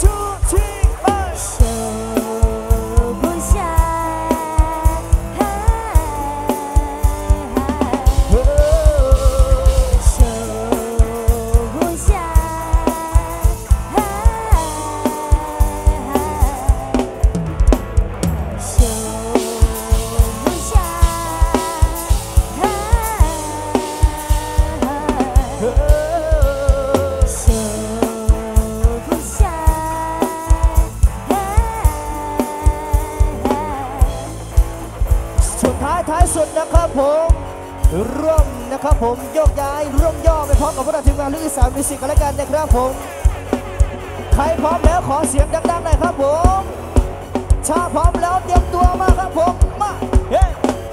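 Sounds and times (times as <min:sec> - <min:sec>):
wavering melodic lead line: 0:00.0 - 0:50.9.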